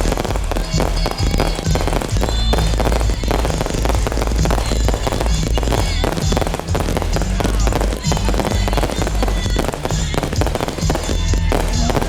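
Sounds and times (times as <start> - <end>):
fireworks popping and crackling: 0.0 - 12.0
loud music with heavy bass: 0.0 - 12.0.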